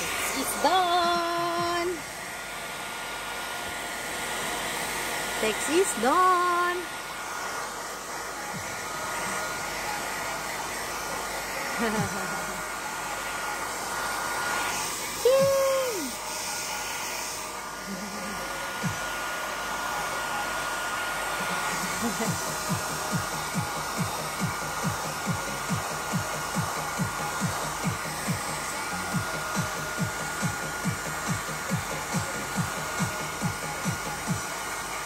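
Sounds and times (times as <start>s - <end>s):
hair dryer running: 0.0s - 35.0s.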